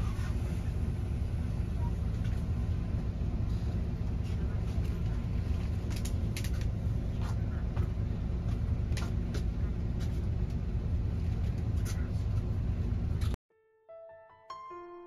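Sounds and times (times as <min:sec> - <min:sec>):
bus engine rumble: 0:00.0 - 0:13.4.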